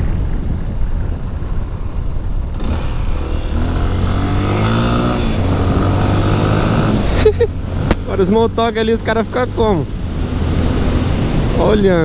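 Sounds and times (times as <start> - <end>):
motorcycle engine accelerating: 0.0 - 11.8.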